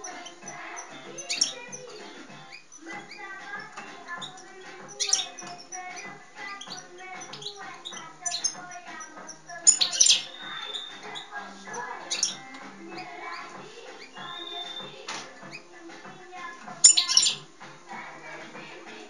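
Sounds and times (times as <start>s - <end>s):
goldfinch singing: 0.0s - 18.7s.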